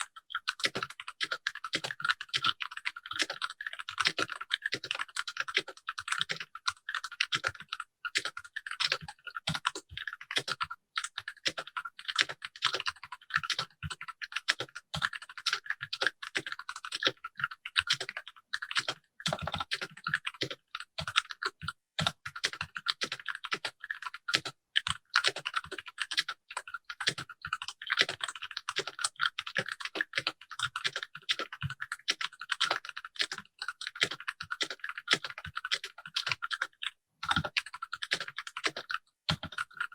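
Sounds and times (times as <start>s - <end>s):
fast typing on mechanical keyboard: 0.4s - 39.9s.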